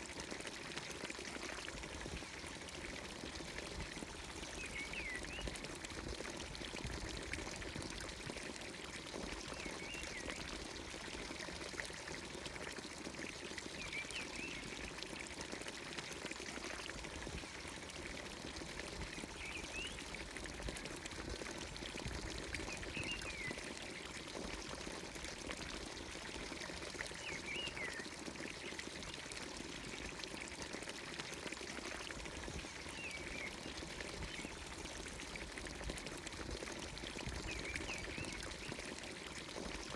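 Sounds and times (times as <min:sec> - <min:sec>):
water pouring into trough: 0:00.0 - 0:39.9.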